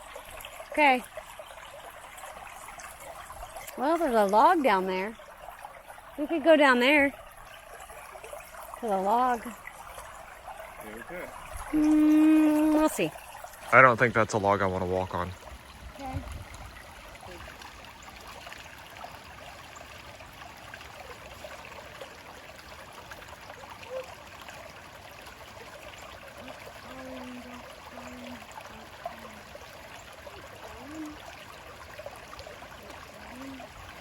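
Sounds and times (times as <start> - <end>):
creek water over rocks: 0.0 - 34.0.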